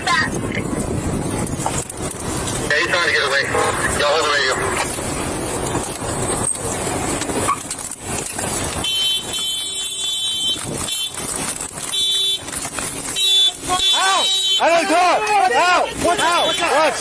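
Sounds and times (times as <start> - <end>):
car moving in street: 0.0 - 17.0.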